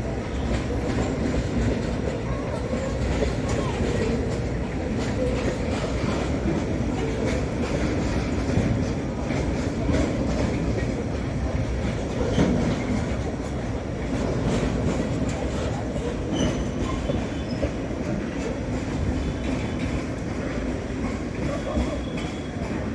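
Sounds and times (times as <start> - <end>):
train wheels clacking over rail joints: 0.0 - 22.9.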